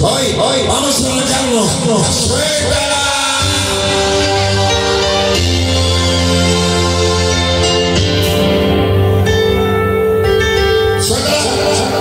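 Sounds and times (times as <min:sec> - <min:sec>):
loud music with deep bass: 0:00.0 - 0:12.0.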